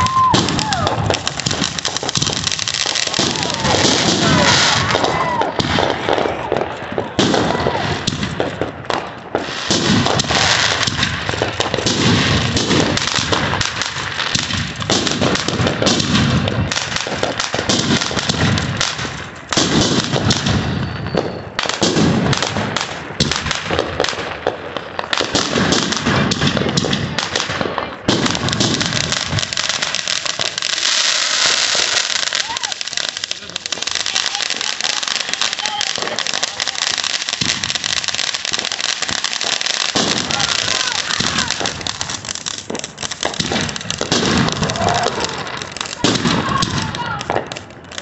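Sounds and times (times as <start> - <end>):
fireworks popping and bursting: 0.0 - 48.0
fountain firework hissing and crackling: 0.0 - 48.0.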